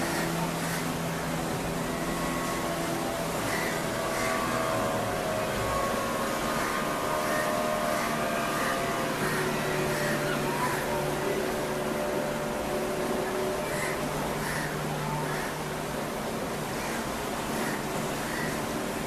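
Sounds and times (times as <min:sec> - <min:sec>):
motor drone: 0:00.0 - 0:19.0.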